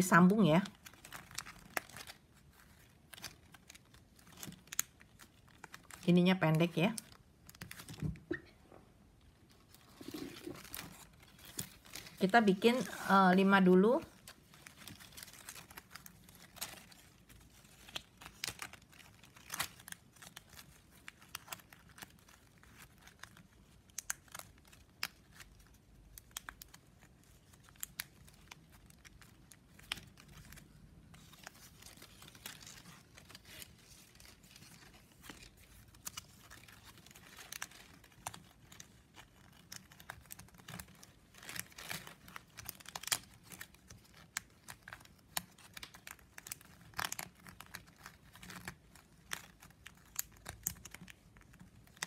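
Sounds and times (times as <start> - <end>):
plastic strap crinkling and clicking: 0.3 - 8.5, 9.2 - 52.0.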